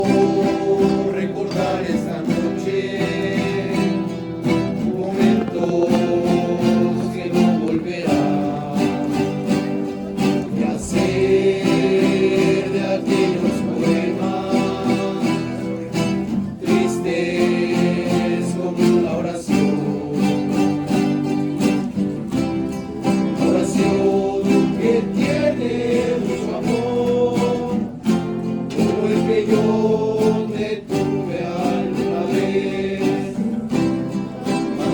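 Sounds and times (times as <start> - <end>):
strummed and plucked guitars: 0.0 - 34.9
voices singing in unison: 0.0 - 34.9.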